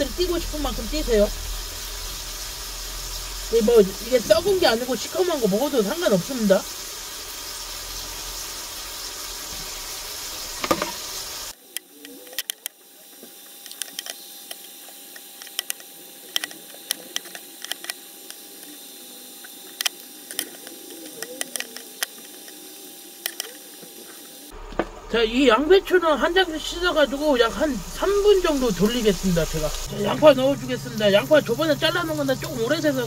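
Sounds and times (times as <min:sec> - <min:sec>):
tap water running: 0:00.0 - 0:11.6, 0:12.3 - 0:33.0.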